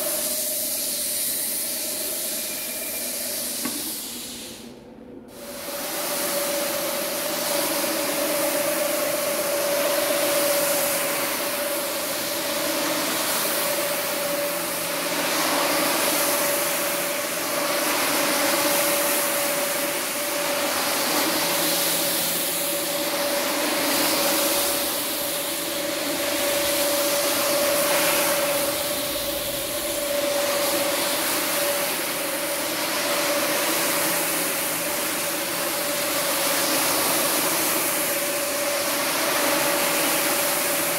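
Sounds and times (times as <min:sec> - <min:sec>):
disc scrubbing wet rug: 0:05.4 - 0:40.9.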